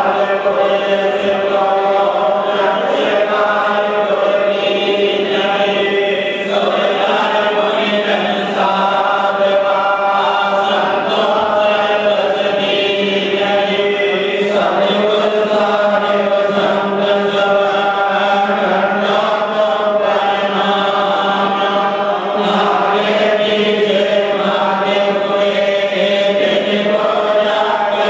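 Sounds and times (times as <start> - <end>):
group chanting through microphones: 0.0 - 28.0.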